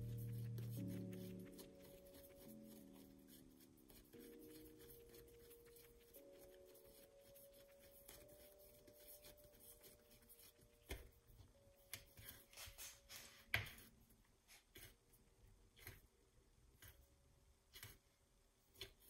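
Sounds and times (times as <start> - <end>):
dough rustling and tapping: 0.0 - 19.0.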